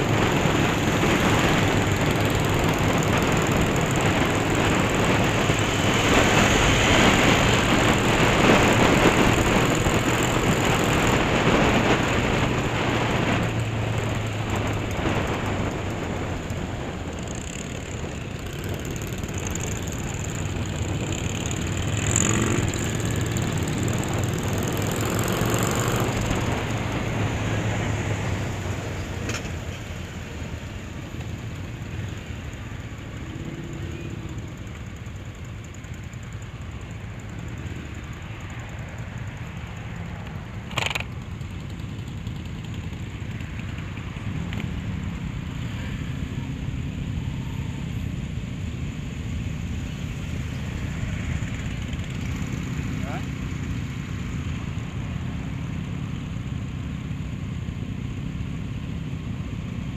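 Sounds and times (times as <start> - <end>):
motorcycle engine hum: 0.0 - 59.9
wind and road rush: 0.0 - 59.9.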